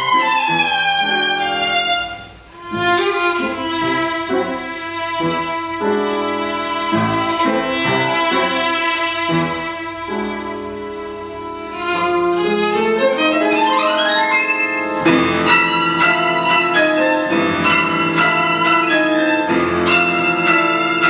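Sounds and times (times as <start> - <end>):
grand piano accompaniment: 0.0 - 21.0
violin playing: 0.0 - 21.0.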